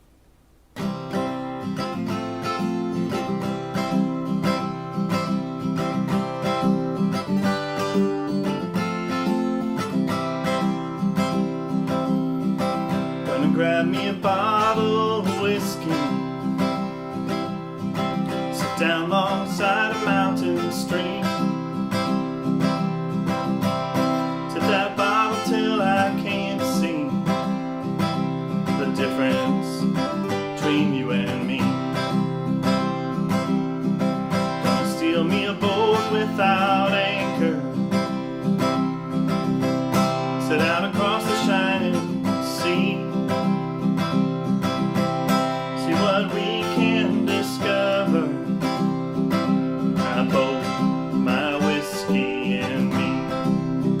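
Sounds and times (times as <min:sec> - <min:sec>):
strummed acoustic guitar: 0:00.0 - 0:54.0
guitar lead melody: 0:00.8 - 0:54.0.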